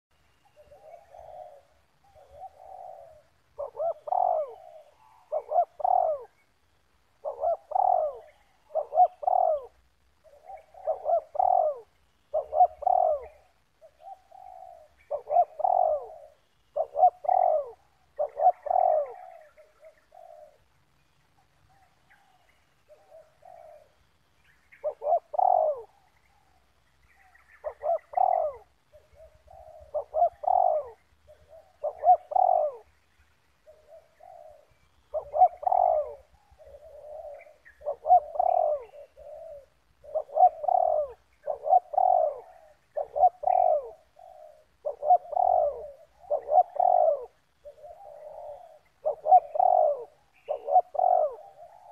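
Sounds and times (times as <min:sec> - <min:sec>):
doves cooing: 0:00.4 - 0:51.9.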